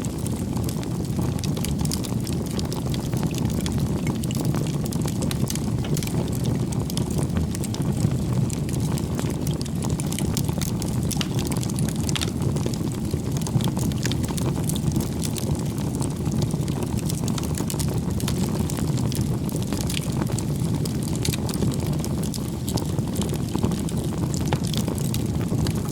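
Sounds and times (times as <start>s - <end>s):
bonfire crackling: 0.0s - 25.9s.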